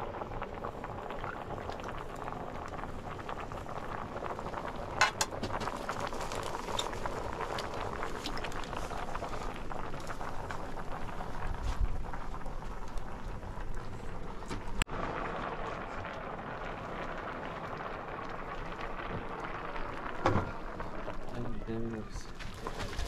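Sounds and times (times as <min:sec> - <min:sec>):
pot boiling hard: 0:00.0 - 0:23.0
wood fire crackling: 0:00.0 - 0:23.0.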